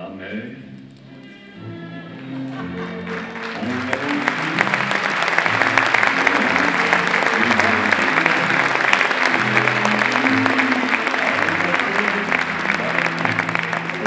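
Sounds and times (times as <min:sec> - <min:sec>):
background music: 0:00.0 - 0:14.0
audience applauding: 0:02.1 - 0:14.0.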